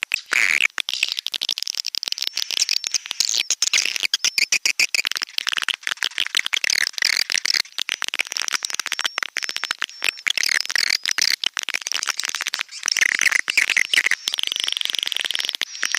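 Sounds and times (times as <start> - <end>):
swiftlets chattering and twittering: 0.9 - 15.9.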